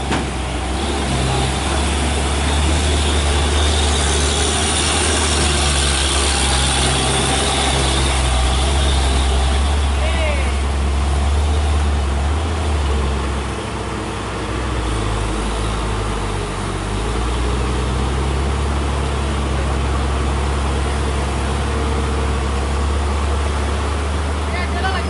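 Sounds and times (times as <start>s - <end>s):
road noise: 0.0s - 25.0s
truck engine droning: 0.0s - 25.0s.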